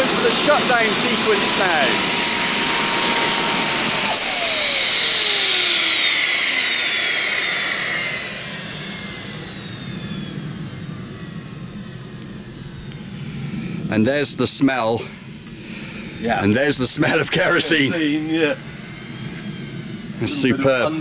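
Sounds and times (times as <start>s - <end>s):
exhaust rush: 0.0s - 21.0s
jet engine whine spooling down: 0.0s - 21.0s
low steady hum: 0.0s - 21.0s.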